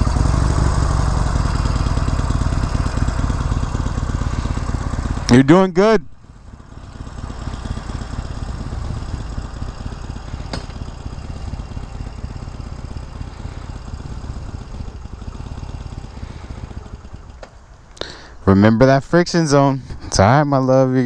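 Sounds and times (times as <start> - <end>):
motorcycle engine running: 0.0 - 18.4, 19.7 - 20.5.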